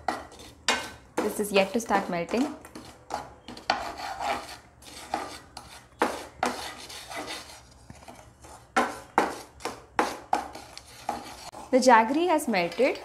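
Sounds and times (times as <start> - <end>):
wooden spatula scraping pan: 0.0 - 13.0.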